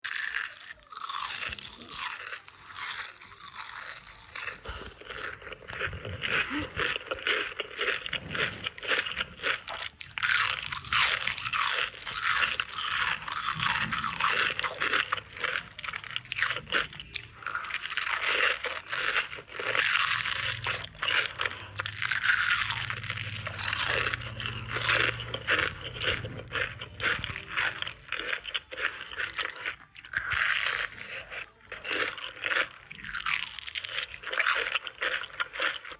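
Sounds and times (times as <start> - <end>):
crunchy food being chewed: 0.0 - 35.9.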